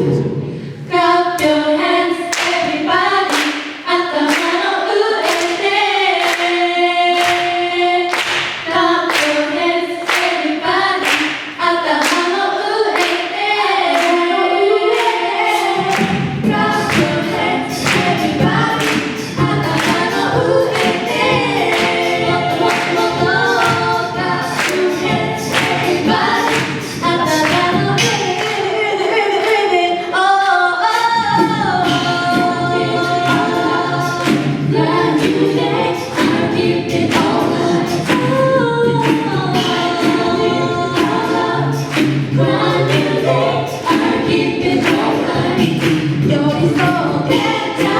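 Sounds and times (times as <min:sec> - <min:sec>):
vocal group singing in harmony: 0:00.0 - 0:47.9
vocal percussion beat: 0:00.0 - 0:47.9.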